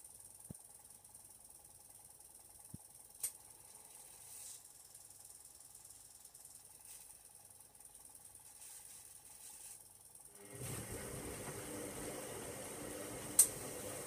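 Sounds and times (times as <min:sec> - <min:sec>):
washing machine running faintly: 0:00.0 - 0:14.0.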